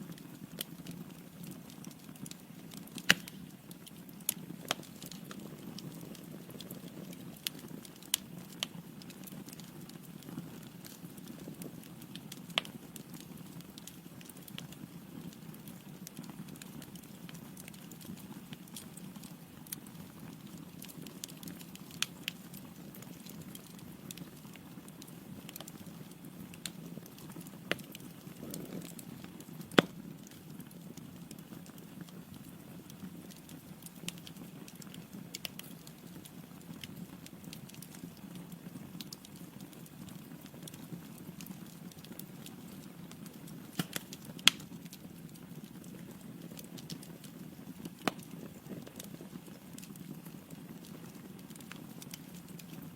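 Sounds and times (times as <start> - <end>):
fire crackles and pops: 0.0 - 52.9
low rumble of flames: 0.0 - 52.9.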